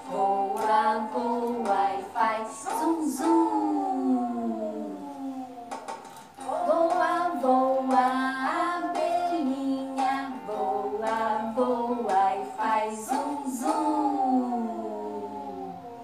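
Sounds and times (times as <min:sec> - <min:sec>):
woman singing: 0:00.0 - 0:04.9, 0:06.4 - 0:15.7.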